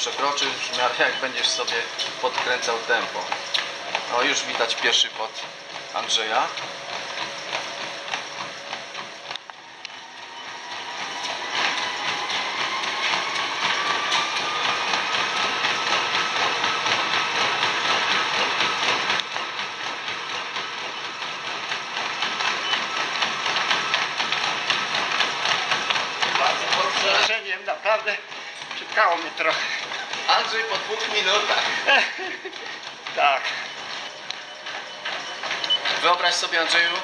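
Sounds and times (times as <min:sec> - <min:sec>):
footfalls on treadmill belt: 0:00.0 - 0:37.0
treadmill motor whine: 0:00.0 - 0:37.0.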